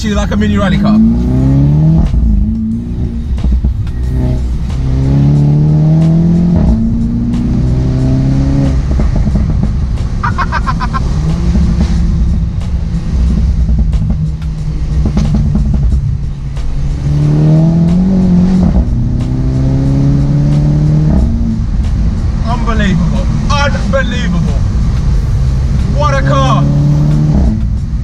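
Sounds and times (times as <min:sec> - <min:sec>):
car engine accelerating: 0:00.0 - 0:28.0
exhaust cracks: 0:00.0 - 0:28.0.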